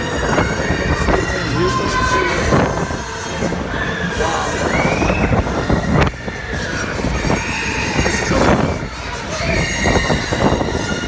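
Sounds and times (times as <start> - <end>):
high squeals: 0.0 - 11.0
ride machinery rumbling and rattling: 0.0 - 11.0.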